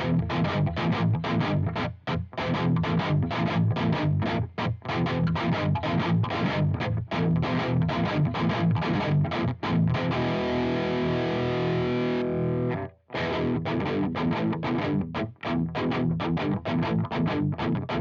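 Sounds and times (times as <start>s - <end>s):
distorted electric guitar riff: 0.0s - 18.0s.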